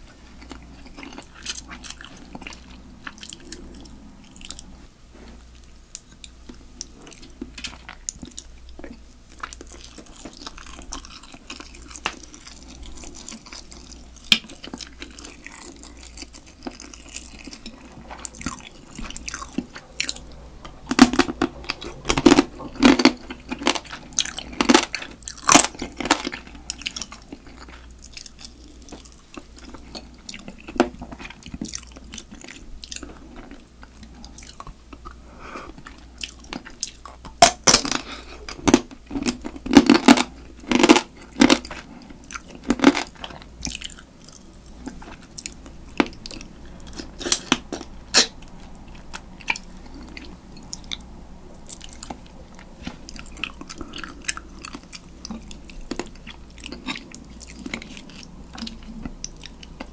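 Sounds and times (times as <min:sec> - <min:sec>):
chewing and crunching crab shell: 0:00.0 - 0:59.9.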